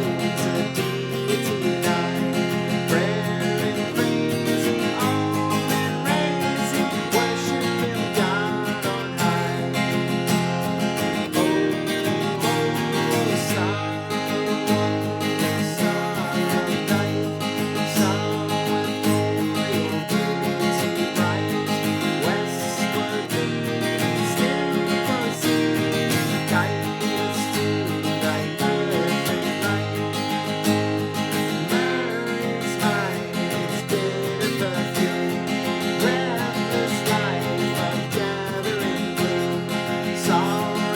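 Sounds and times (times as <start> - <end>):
acoustic guitar strummed: 0.0 - 40.9.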